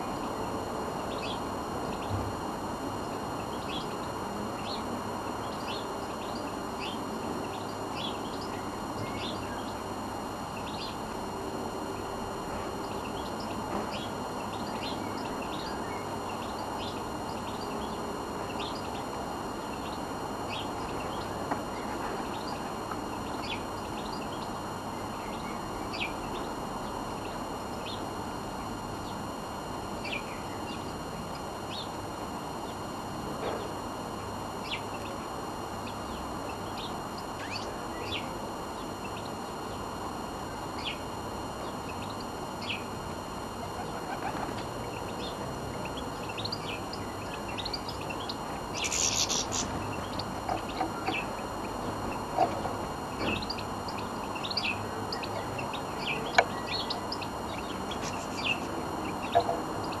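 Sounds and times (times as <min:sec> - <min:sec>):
songbirds chirping: 0:00.0 - 1:00.0.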